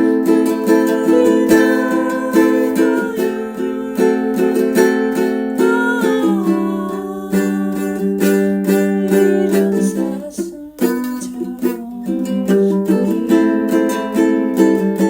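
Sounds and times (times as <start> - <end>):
ukulele ballad: 0.0 - 15.0.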